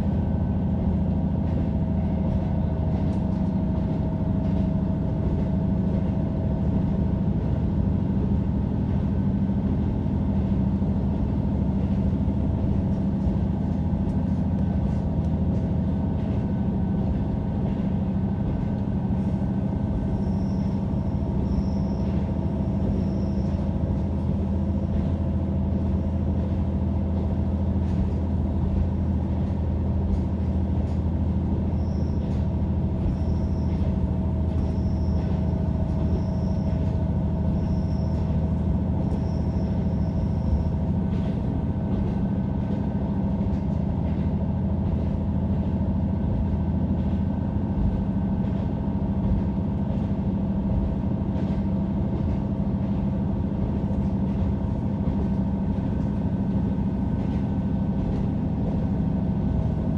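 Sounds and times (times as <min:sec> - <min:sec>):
diesel engine drone: 0:00.0 - 0:59.9
train wheels rumbling on rails: 0:00.0 - 0:59.9.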